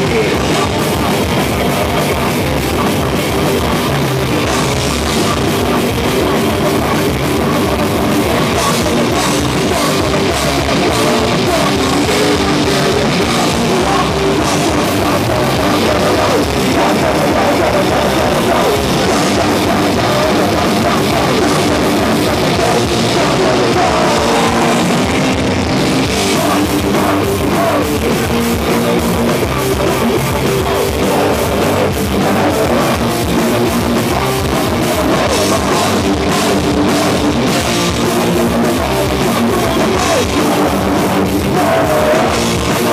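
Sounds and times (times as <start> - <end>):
drum kit playing fast: 0.0 - 42.9
electric guitars: 0.0 - 42.9.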